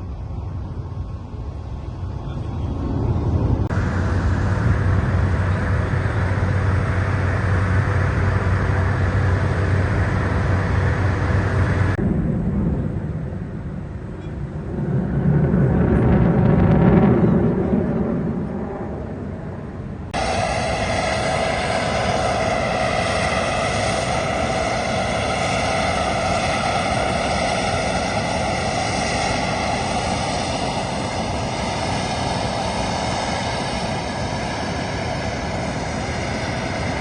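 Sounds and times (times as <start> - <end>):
aircraft engine roar: 0.0 - 37.0
aircraft passing: 0.0 - 37.0.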